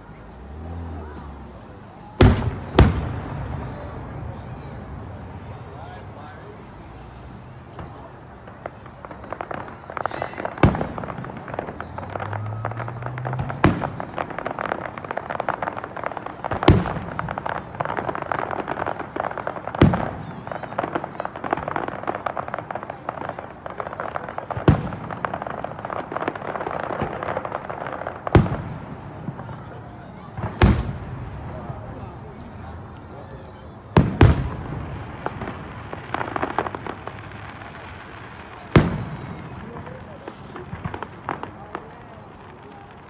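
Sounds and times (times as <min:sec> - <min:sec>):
fireworks crackling: 0:00.0 - 0:43.0.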